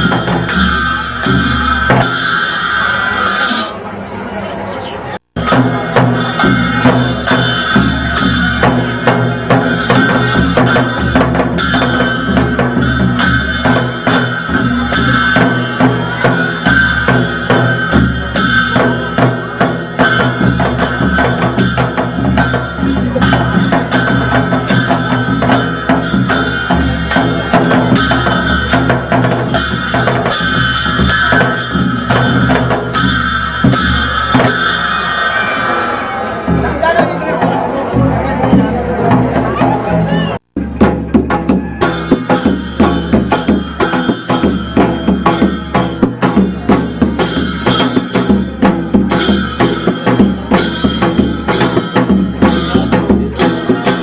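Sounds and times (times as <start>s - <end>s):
hand cymbals clashing: 0.0s - 3.8s, 5.4s - 36.6s, 41.8s - 54.0s
barrel drums beaten fast: 5.4s - 35.0s, 36.5s - 54.0s.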